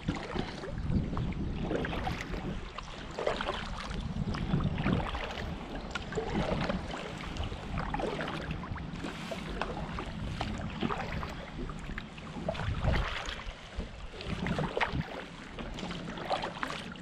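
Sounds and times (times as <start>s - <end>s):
water splashing and dripping: 0.0s - 17.0s
wind rumbling on microphone: 0.0s - 17.0s.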